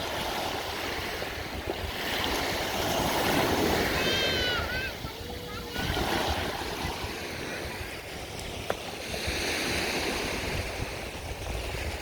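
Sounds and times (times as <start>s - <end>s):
sea waves washing onto beach: 0.0s - 12.0s
wind buffeting microphone: 0.0s - 12.0s.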